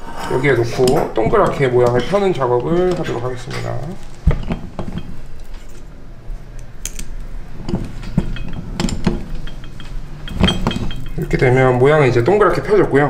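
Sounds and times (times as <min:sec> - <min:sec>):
ring stretcher clicking and clinking: 0:00.5 - 0:12.7.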